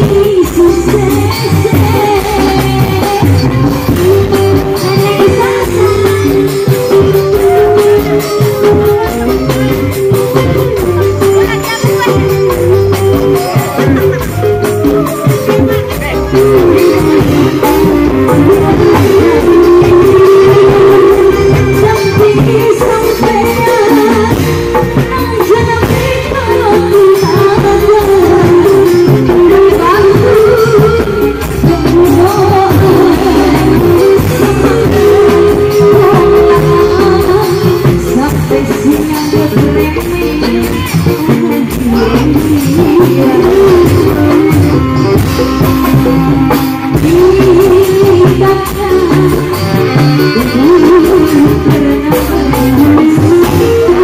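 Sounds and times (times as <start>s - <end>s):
street band music: 0.0s - 54.0s
woman singing through microphone: 0.0s - 54.0s.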